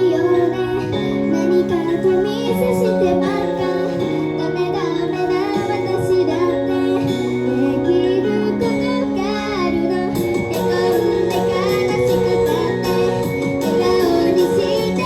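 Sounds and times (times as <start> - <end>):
backing track: 0.0 - 15.0
woman singing pop song: 0.0 - 15.0.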